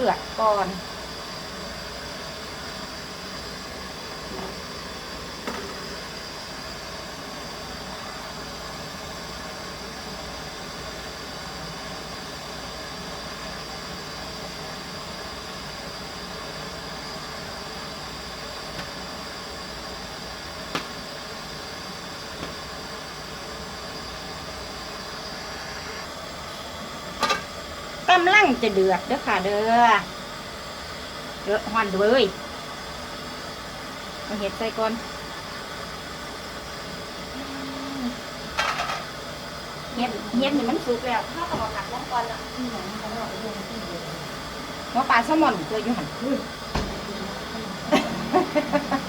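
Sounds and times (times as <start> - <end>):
pot heating hiss and rumble: 0.0 - 49.0.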